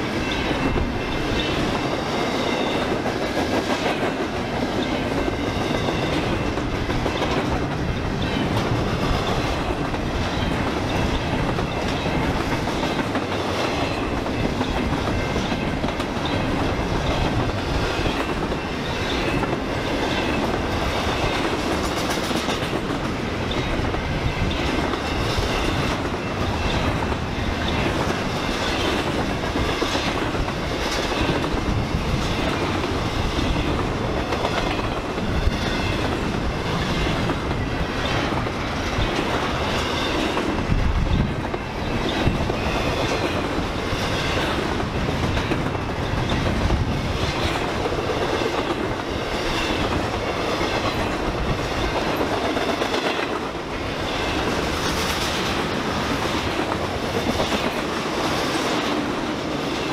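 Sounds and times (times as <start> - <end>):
train cars rolling past: 0.0 - 59.9
wheels clickety-clack over rails: 0.0 - 59.9.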